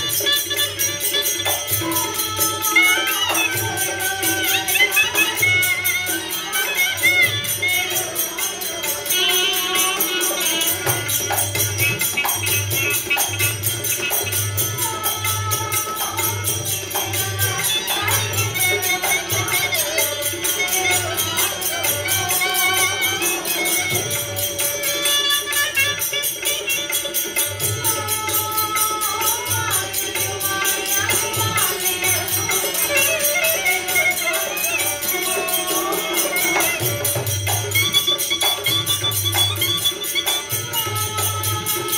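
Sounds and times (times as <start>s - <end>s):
small brass cymbals: 0.0s - 41.9s.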